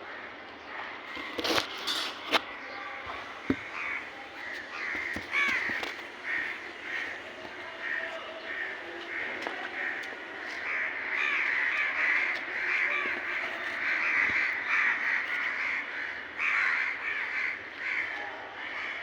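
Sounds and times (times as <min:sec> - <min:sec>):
crows cawing: 0:00.0 - 0:01.5, 0:03.1 - 0:19.0.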